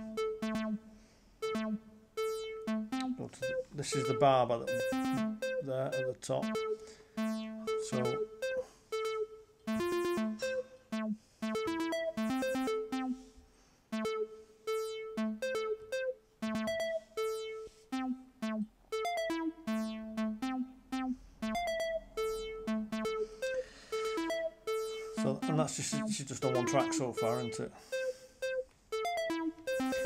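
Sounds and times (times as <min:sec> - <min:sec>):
looping synth pattern: 0:00.0 - 0:30.0.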